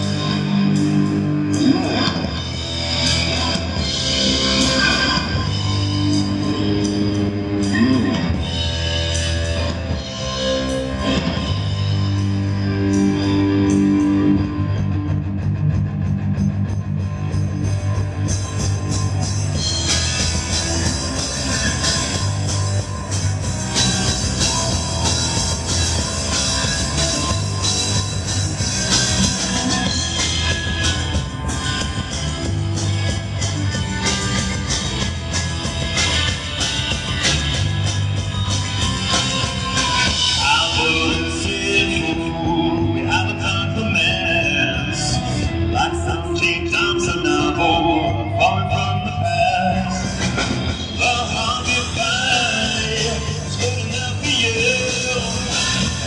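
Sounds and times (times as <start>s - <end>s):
bass guitar: 0.0s - 56.0s
distorted electric guitar: 0.0s - 56.0s
drum kit: 0.0s - 56.0s
live rock band: 0.0s - 56.0s.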